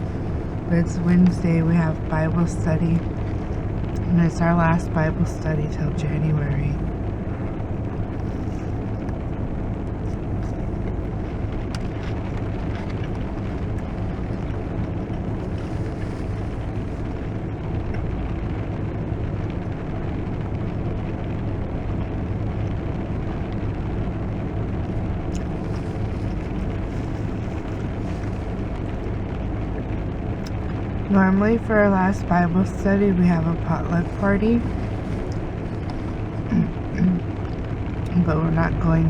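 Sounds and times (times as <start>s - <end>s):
heavy rain on car roof: 0.0s - 39.0s
low hum: 0.0s - 39.0s.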